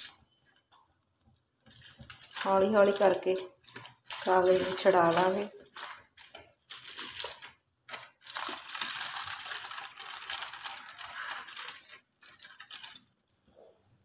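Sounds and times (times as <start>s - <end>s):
aluminium foil crinkling: 0.0s - 13.6s.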